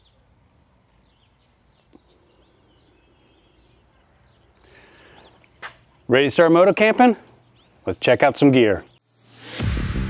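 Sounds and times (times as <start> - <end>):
faint birds chirping: 0.0 - 9.2.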